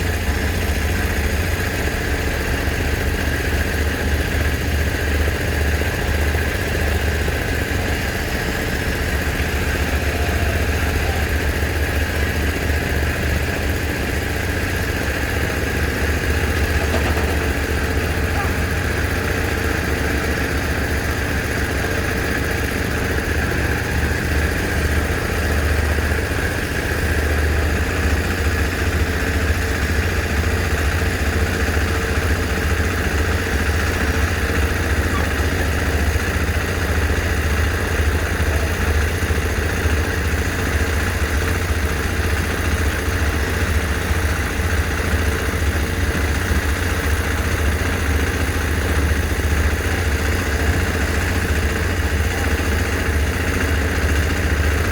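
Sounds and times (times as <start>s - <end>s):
heavy machinery engine rumbling: 0.0s - 54.9s.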